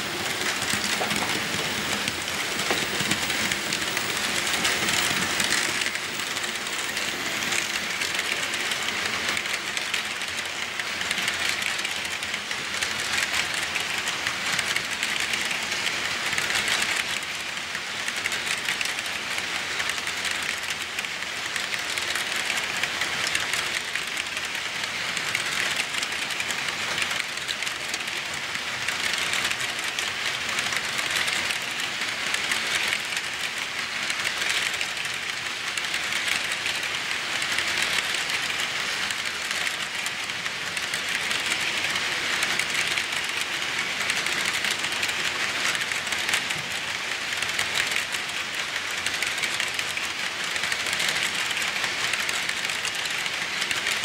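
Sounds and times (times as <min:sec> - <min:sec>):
fine rapid clicking: 0:00.0 - 0:54.0
model train wheels on rails: 0:00.0 - 0:54.0.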